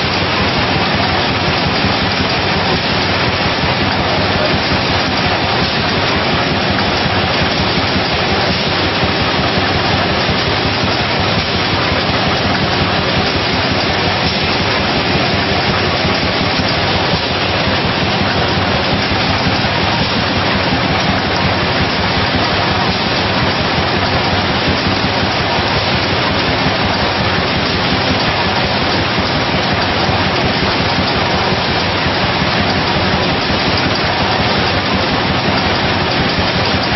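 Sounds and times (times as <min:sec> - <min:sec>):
bottling machine running: 0:00.0 - 0:36.9.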